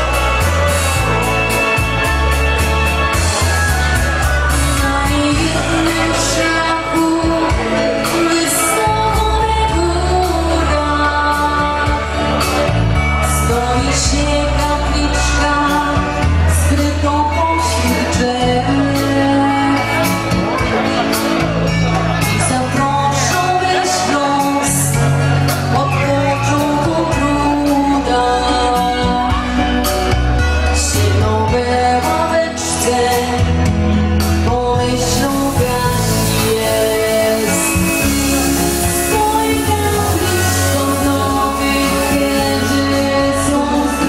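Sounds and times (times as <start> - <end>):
pop song with singing: 0.0 - 44.0.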